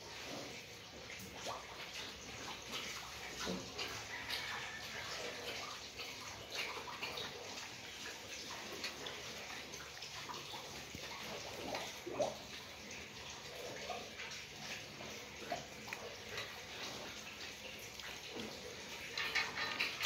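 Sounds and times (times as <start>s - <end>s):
piglets slurping and smacking: 0.0s - 20.0s.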